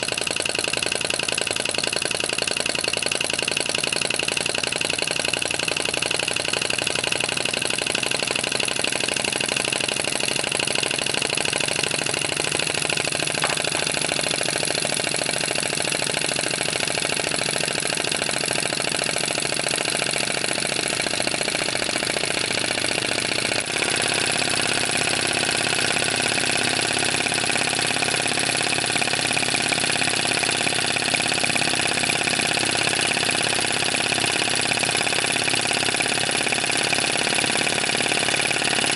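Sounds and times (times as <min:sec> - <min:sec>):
model engine running: 0:00.0 - 0:38.9.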